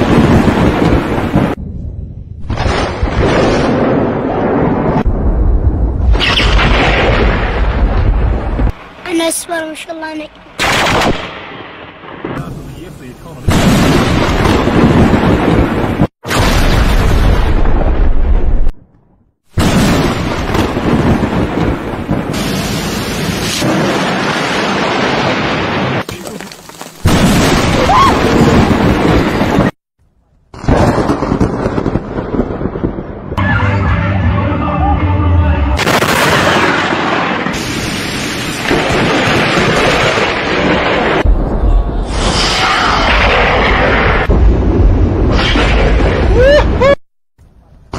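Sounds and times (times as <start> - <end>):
rolling thunder: 0.0 - 8.9, 10.6 - 18.8, 19.5 - 26.0, 27.0 - 29.8, 30.5 - 33.8, 34.8 - 46.9.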